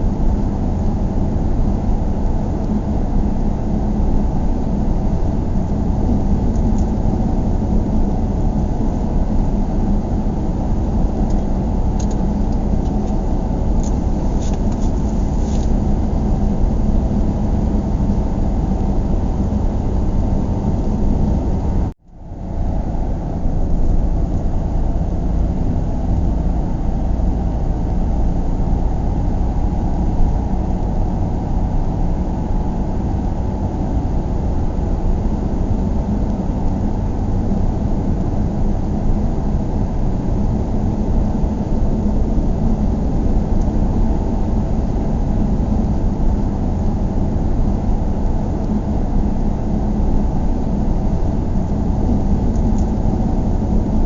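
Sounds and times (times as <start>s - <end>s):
car interior road and engine rumble: 0.0s - 54.0s.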